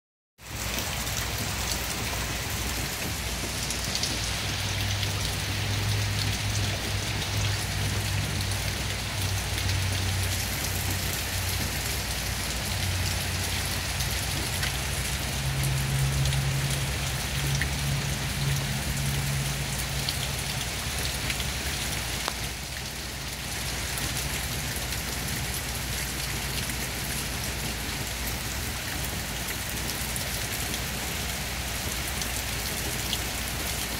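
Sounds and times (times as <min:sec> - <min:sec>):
rain splashing into puddle: 0:00.4 - 0:33.9.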